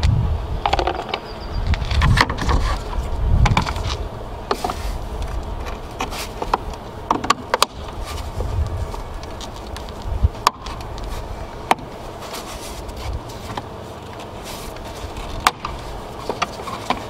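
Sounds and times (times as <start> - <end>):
low rumbling handling noise: 0.0 - 17.0.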